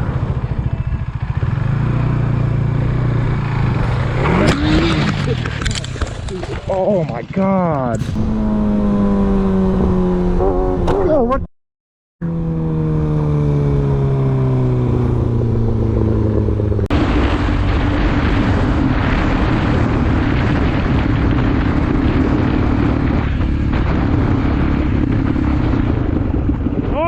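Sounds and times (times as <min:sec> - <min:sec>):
motorcycle engine slowing: 0:00.0 - 0:11.3, 0:12.2 - 0:27.0
motorcycle riding at steady speed: 0:00.0 - 0:11.5, 0:12.2 - 0:27.0
wind and road noise: 0:00.0 - 0:11.5, 0:12.2 - 0:27.0.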